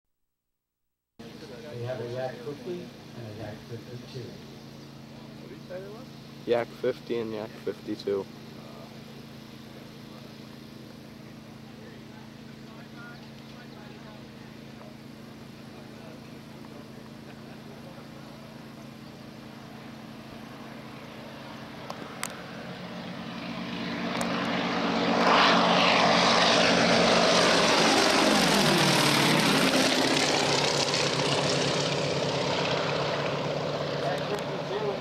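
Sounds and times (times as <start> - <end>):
propeller planes flying past: 1.2 - 35.0.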